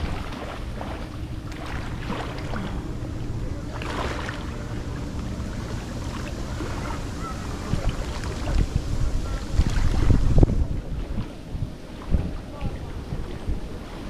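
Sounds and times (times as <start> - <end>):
water splashes: 0.0 - 14.0
waves washing at shore: 0.0 - 14.0
wind buffeting microphone: 0.0 - 14.0.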